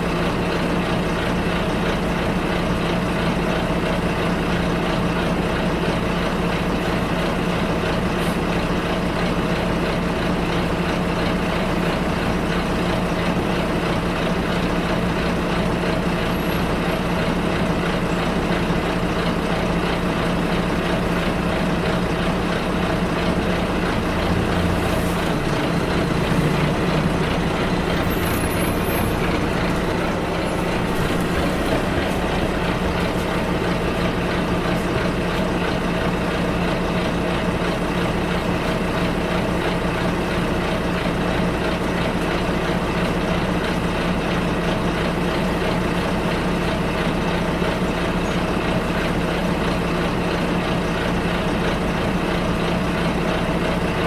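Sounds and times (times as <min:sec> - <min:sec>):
bus engine hum: 0:00.0 - 0:54.0
road noise: 0:00.0 - 0:54.0.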